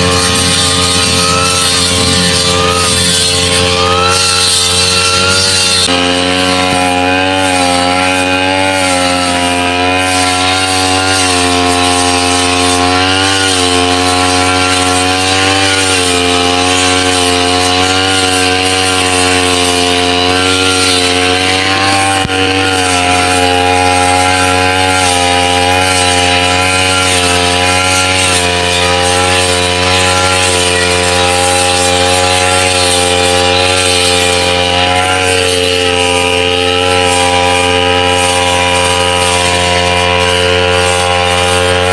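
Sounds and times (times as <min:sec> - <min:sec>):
blade cutting wet grass: 0:00.0 - 0:41.9
brush cutter engine running: 0:00.0 - 0:41.9.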